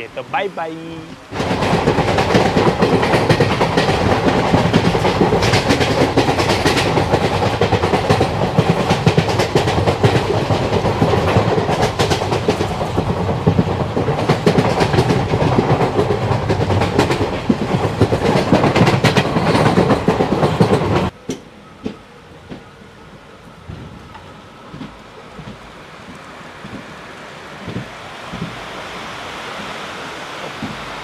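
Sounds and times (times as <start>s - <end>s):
wheels clacking over rail joints: 0.0s - 22.8s, 23.6s - 31.0s
train wheels rushing on rails: 0.0s - 31.0s.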